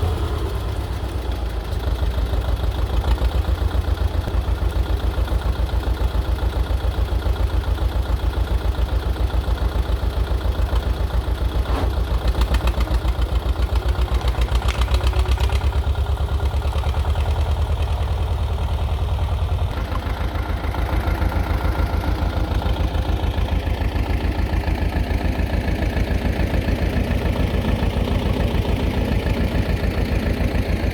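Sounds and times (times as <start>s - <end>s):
tractor diesel engine chugging: 0.0s - 30.9s.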